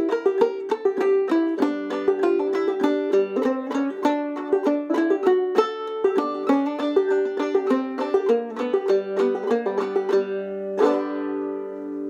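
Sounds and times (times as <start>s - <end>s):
banjo plucked and strummed: 0.0s - 12.0s.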